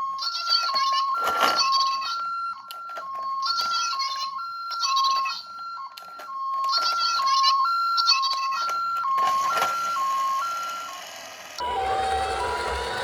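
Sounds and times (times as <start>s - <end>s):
toy siren two-tone: 0.0s - 13.0s.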